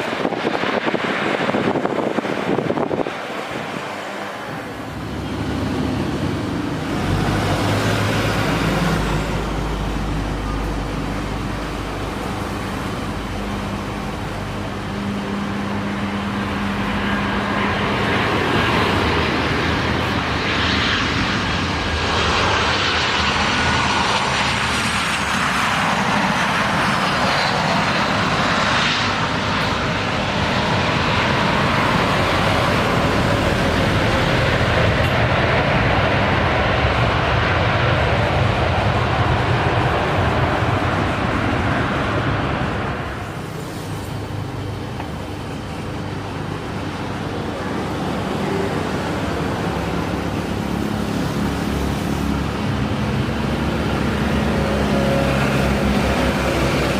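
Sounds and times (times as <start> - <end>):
high engine whine: 0.0 - 56.9
jet airliner engines passing: 0.0 - 56.9.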